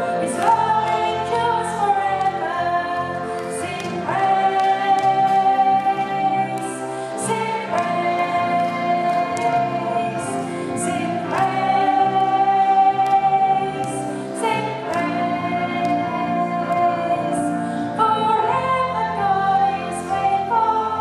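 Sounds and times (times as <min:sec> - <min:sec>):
band playing keyboard and guitars: 0:00.0 - 0:21.0.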